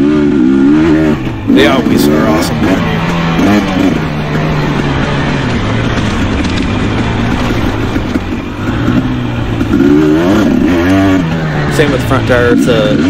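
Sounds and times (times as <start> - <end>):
dirt bike engine: 0.0 - 13.0.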